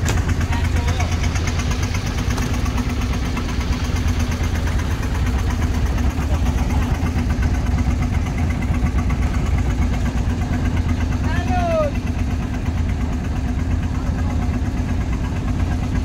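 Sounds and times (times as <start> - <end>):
boat engine idling: 0.0 - 16.0.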